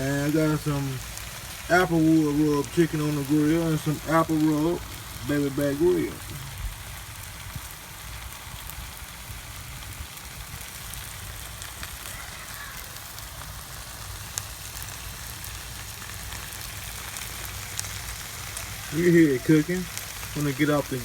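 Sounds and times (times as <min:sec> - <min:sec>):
meat sizzling on a grill: 0:00.0 - 0:21.0.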